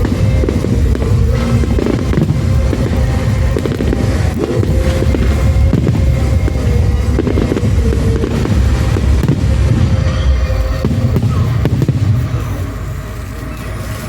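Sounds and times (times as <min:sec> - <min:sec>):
fireworks bangs and crackles: 0:00.0 - 0:14.0
loud music: 0:00.0 - 0:14.0.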